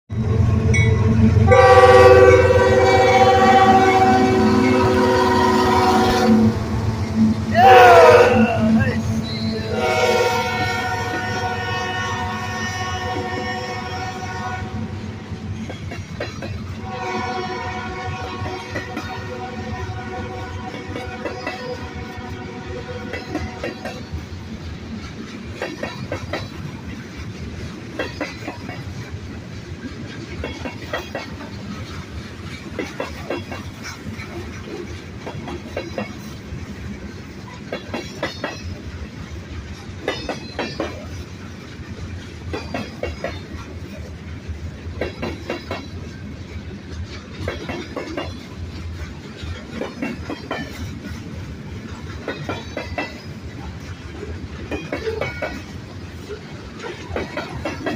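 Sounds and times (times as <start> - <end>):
train low rumble: 0.1 - 57.9
train wheels clacking over rail joints: 9.0 - 57.9.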